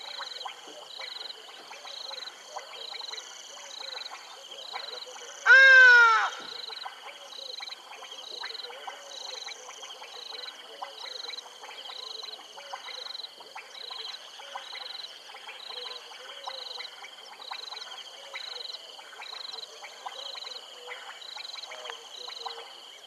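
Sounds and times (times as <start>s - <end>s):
frogs pulsed chirping: 0.0s - 23.0s
frog clicking calls: 1.8s - 22.7s.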